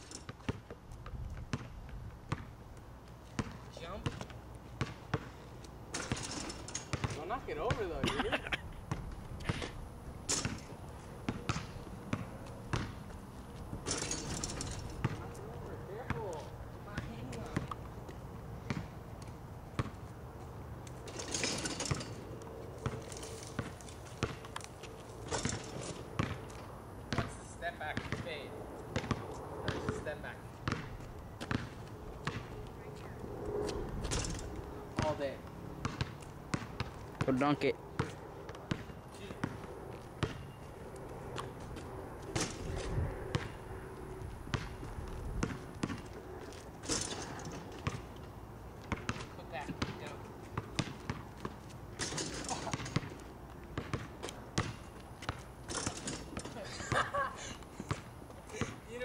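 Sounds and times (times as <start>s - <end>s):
basketball bouncing on asphalt: 0.1s - 59.0s.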